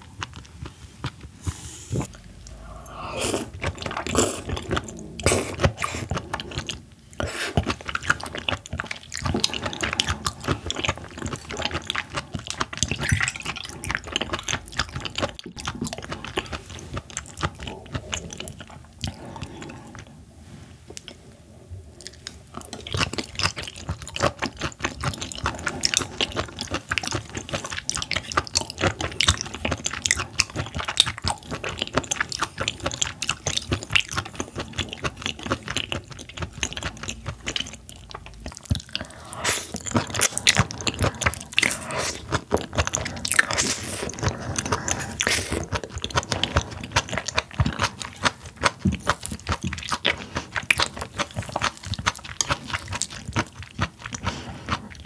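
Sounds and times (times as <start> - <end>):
wet chewing crunches: 0.0 - 20.2, 22.0 - 55.0.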